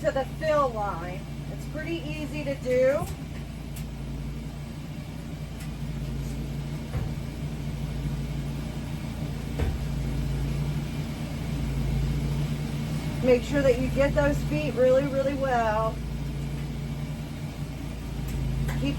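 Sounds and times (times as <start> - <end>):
low machine hum: 0.0 - 18.9.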